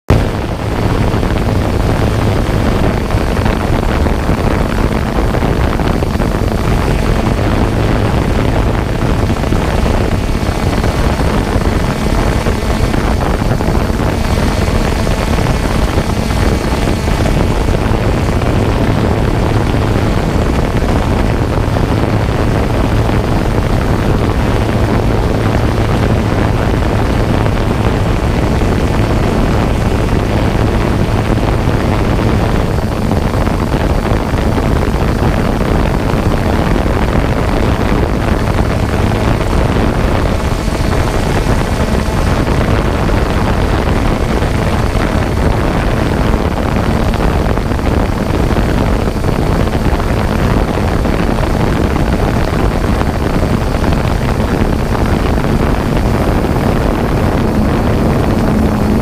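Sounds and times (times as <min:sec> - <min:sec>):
engine-like drone: 0:00.0 - 0:59.0.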